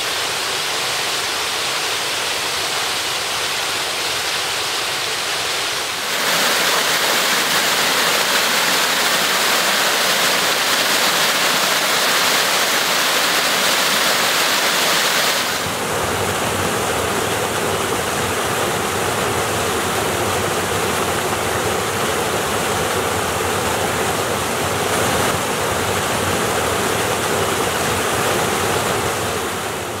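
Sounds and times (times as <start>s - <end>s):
water rushing down rocks: 0.0s - 30.0s.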